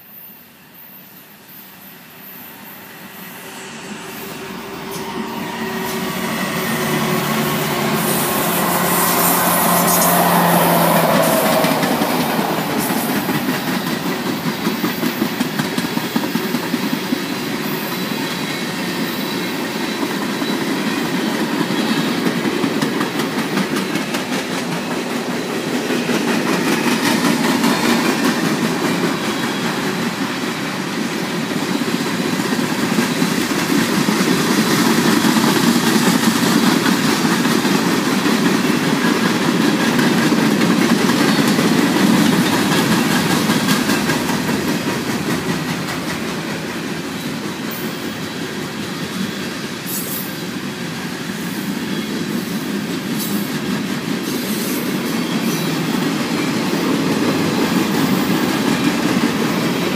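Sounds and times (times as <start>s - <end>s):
diesel locomotives humming: 1.3s - 59.9s
train wheels clickety-clack: 3.2s - 59.9s.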